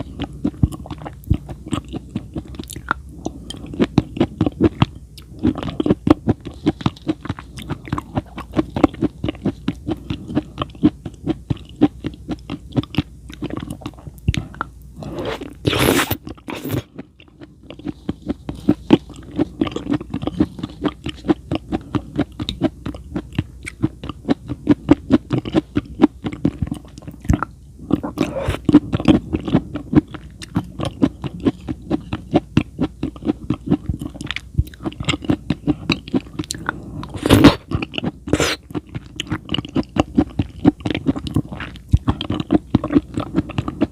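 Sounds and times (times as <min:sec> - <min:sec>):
chewing and crunching food: 0:00.0 - 0:43.9.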